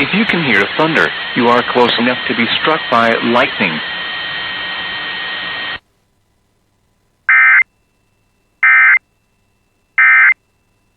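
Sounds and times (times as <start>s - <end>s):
broadcast hiss: 0.0s - 10.9s.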